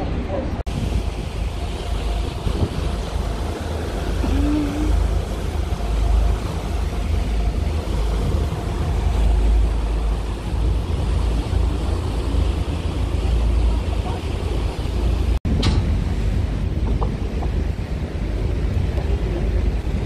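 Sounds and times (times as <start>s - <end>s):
churning wake: 0.0s - 20.0s
ferry engines rumbling: 0.0s - 20.0s
wind buffeting microphone: 0.0s - 20.0s.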